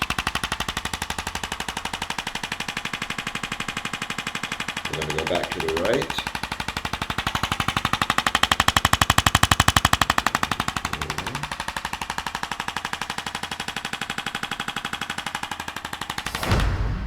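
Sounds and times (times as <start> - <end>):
rapid mechanical taps: 0.0 - 17.0.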